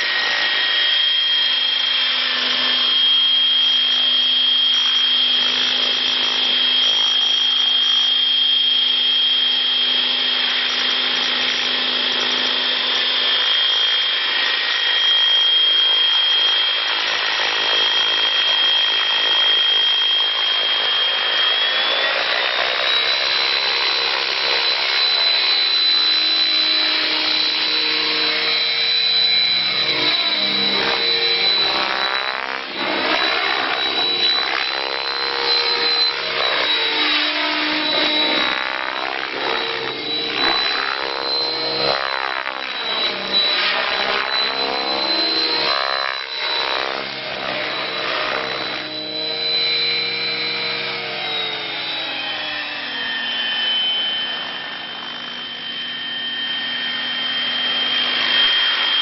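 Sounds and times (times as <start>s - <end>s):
helicopter rotor rushing: 0.0s - 59.0s
model helicopter high-pitched whine: 0.0s - 59.0s.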